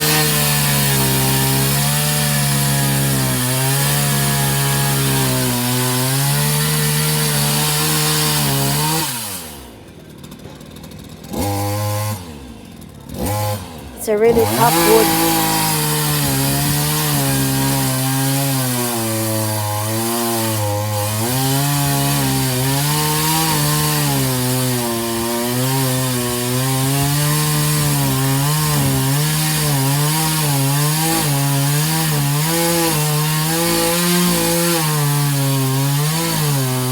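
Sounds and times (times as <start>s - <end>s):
power saw cutting hard wood: 0.0s - 9.6s, 14.1s - 36.9s.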